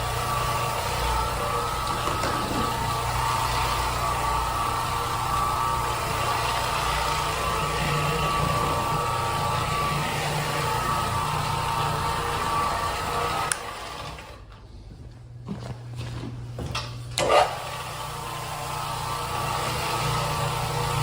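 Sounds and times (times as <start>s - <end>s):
floor cleaning machine humming: 0.0s - 14.6s, 17.1s - 21.0s.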